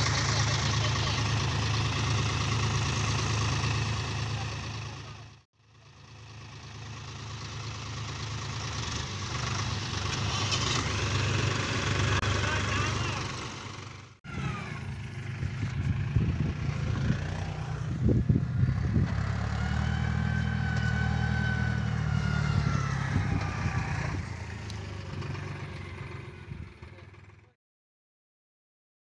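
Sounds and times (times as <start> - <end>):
tractor diesel engine under load: 0.0 - 27.6.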